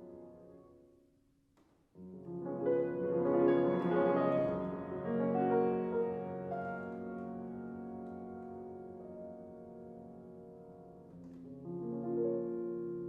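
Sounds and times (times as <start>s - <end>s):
classical piano music: 0.0s - 1.0s, 2.0s - 13.0s.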